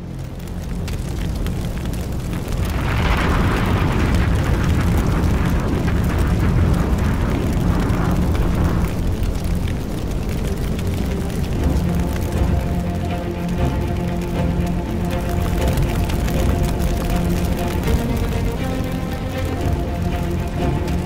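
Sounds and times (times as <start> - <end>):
deep fire rumble: 0.0 - 21.0
fire crackling: 0.0 - 21.0.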